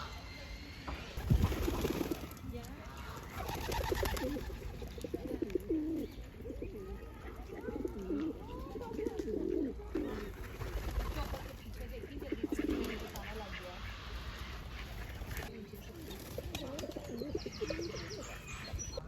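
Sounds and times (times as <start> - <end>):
pigeons cooing: 0.0 - 19.0
small birds chirping: 0.0 - 19.0.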